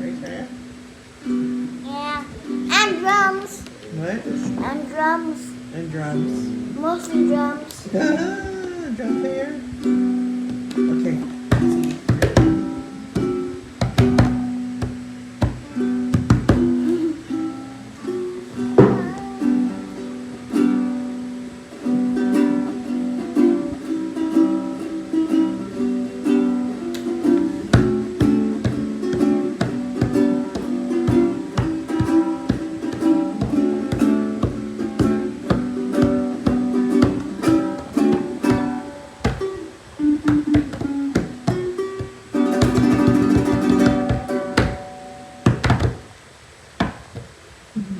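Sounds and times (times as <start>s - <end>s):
ukulele strummed in chords: 0.0s - 47.7s.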